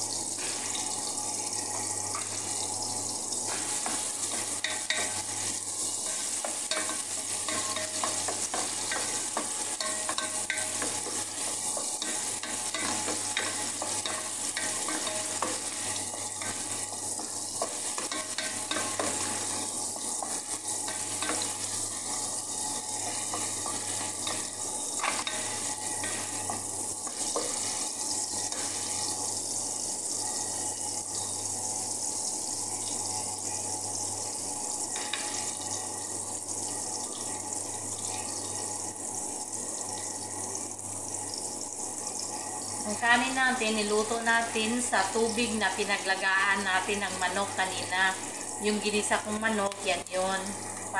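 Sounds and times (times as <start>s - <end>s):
onion sizzling in oil: 0.0s - 50.9s.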